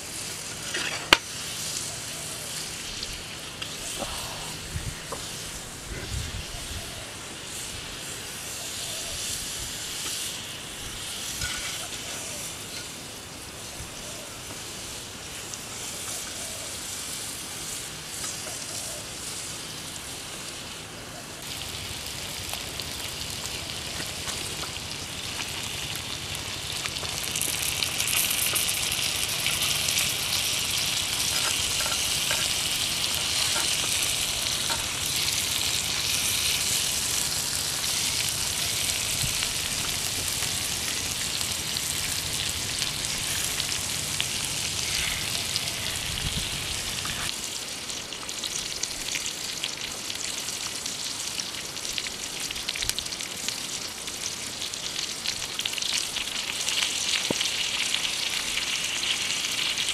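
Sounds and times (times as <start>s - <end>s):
meat sizzling with pops: 0.0s - 59.9s.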